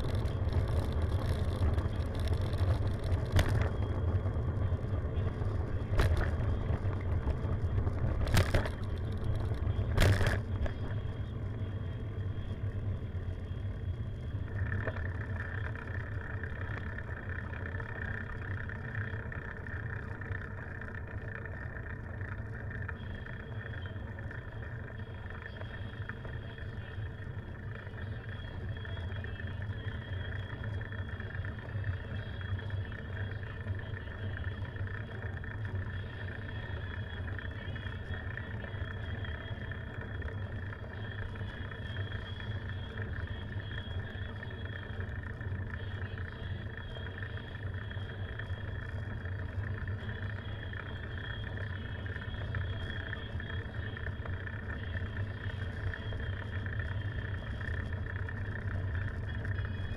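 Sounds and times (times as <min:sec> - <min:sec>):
bicycle tyres on asphalt: 0:00.0 - 0:59.9.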